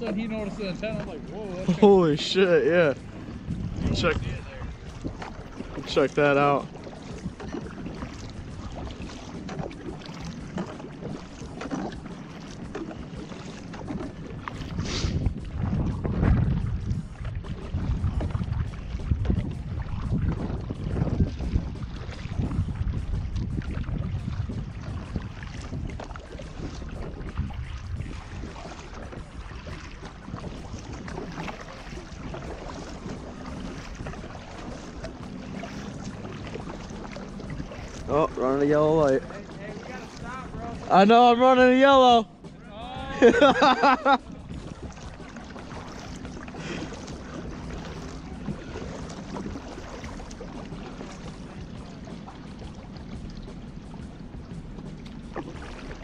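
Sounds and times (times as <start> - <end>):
steady low rumble: 0.0 - 6.3, 14.1 - 41.1, 42.2 - 56.0
paddle splashing in water: 0.0 - 56.0.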